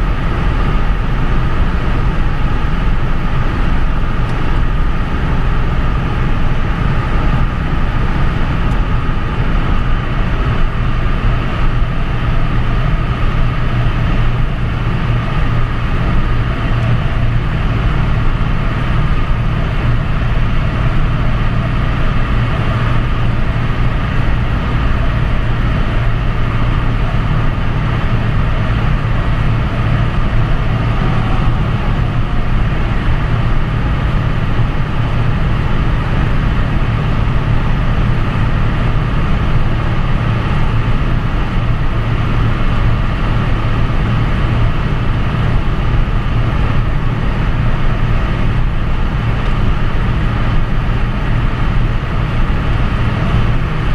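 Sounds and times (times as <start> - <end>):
car engine droning: 0.0 - 53.9
road and wind noise: 0.0 - 53.9.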